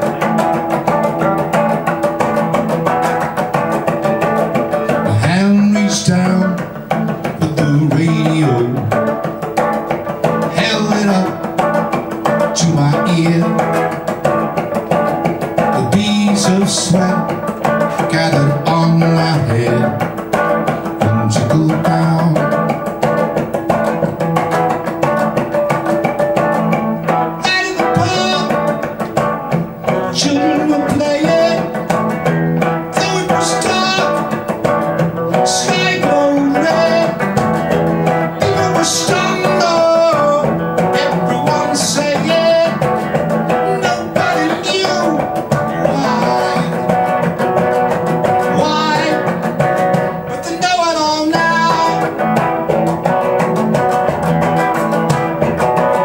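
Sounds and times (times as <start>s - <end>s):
electric guitar picked and strummed: 0.0s - 56.0s.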